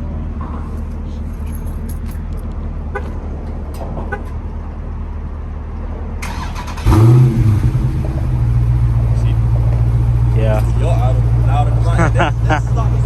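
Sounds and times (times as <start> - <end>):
hum of running engine: 0.0 - 13.0
car engine starting and idling: 0.1 - 13.0.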